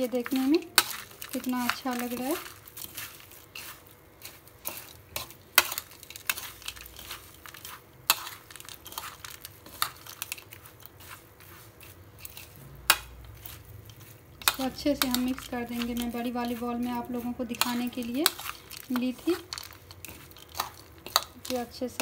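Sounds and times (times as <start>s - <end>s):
spoon scraping dry mix: 0.0s - 22.0s.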